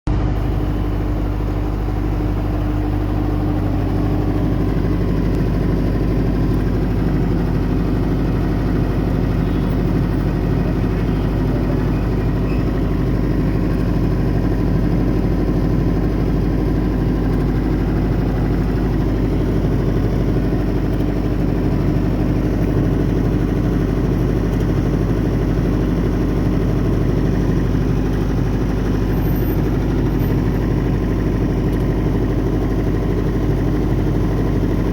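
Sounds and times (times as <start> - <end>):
diesel generator running: 0.1 - 34.9.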